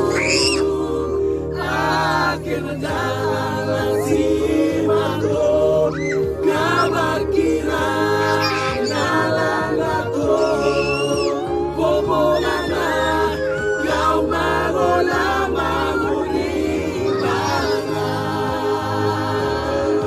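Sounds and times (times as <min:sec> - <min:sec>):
steady low bass: 0:00.0 - 0:20.0
voices singing sliding notes: 0:00.0 - 0:20.0.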